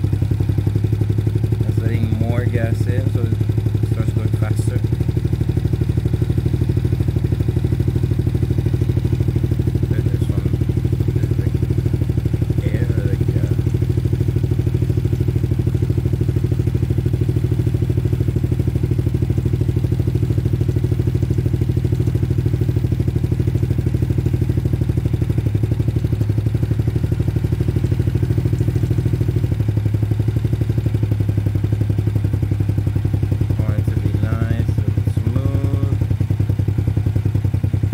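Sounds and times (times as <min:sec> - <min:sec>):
go-kart engine idling: 0:00.0 - 0:37.9.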